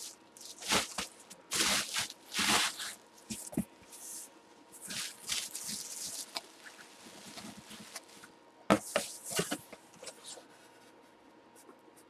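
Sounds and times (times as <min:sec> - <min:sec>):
bubble wrap and cardboard crinkling: 0:00.0 - 0:10.5.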